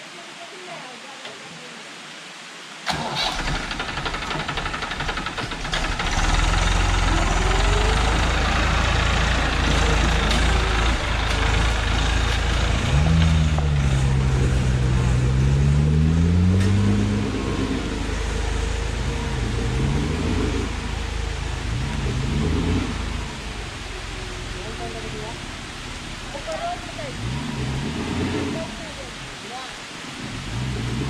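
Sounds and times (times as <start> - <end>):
engine revving: 2.9 - 29.4, 30.1 - 31.0
tractor diesel engine running: 2.9 - 29.4.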